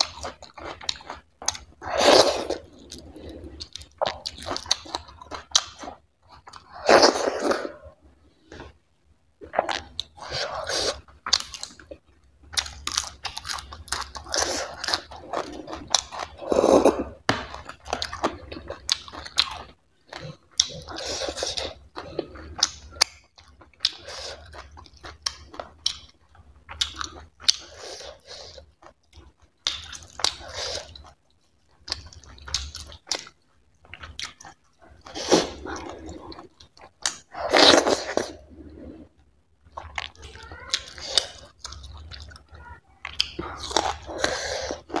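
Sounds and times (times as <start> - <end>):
person chewing food: 0.0 - 8.8, 9.4 - 45.0.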